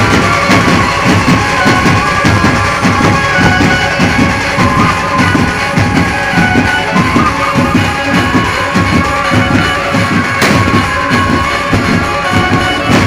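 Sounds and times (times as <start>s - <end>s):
amplified band music: 0.0s - 13.0s
pounding drum beats: 0.0s - 13.0s.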